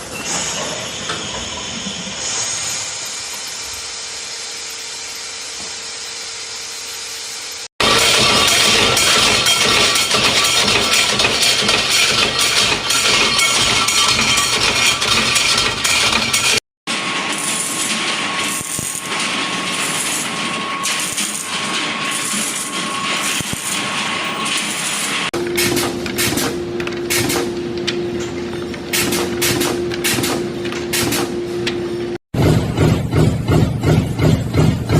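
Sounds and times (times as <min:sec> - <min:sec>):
machine high whine: 0:00.0 - 0:30.0
production machinery running: 0:00.0 - 0:34.9.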